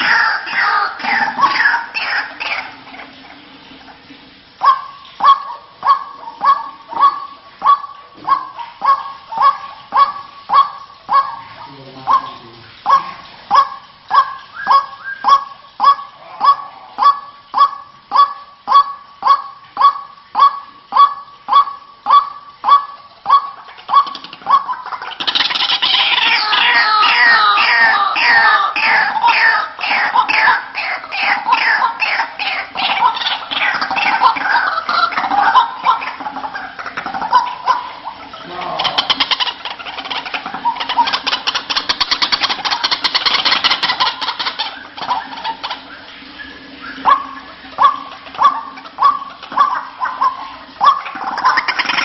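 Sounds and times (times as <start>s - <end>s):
harsh croaking bird notes: 0.0s - 52.0s
waterhen falling calls: 0.0s - 52.0s.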